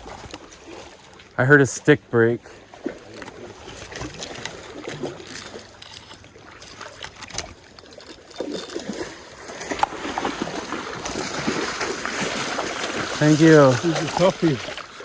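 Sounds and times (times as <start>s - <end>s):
shallow stream running: 0.0s - 15.0s.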